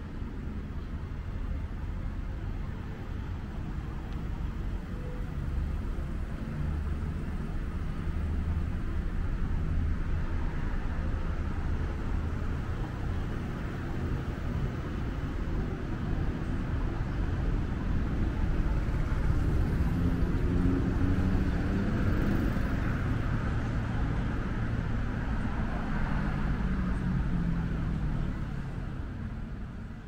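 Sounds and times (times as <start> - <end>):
traffic rumble: 0.0 - 30.0
vehicles passing: 0.0 - 30.0.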